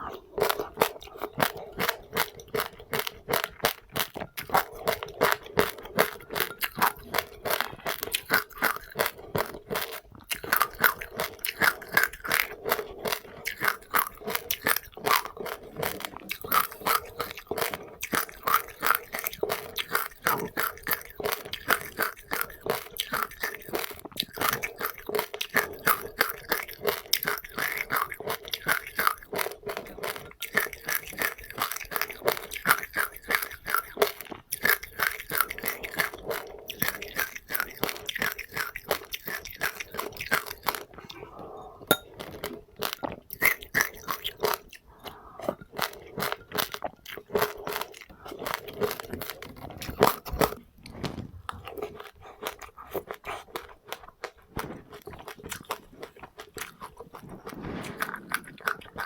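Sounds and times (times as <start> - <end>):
chewing crunchy seeds: 0.0 - 59.0.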